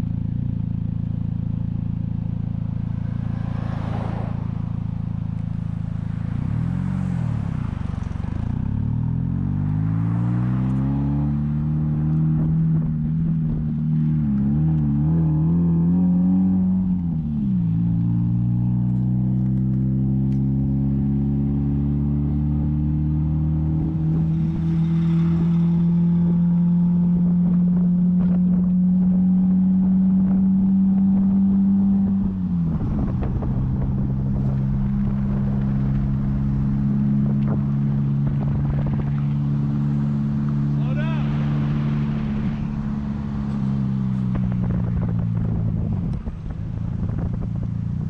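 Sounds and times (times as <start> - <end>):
vehicle engine running: 0.0 - 14.6, 23.4 - 48.0.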